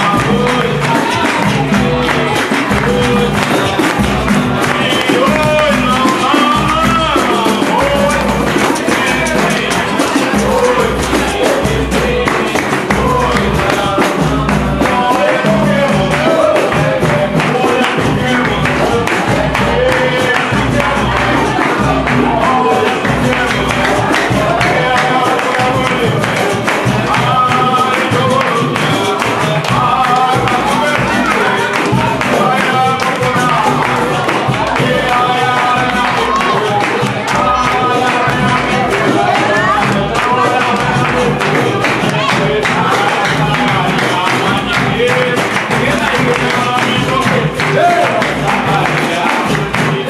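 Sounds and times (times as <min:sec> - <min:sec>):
hand percussion: 0:00.0 - 0:50.0
voices singing: 0:00.0 - 0:50.0.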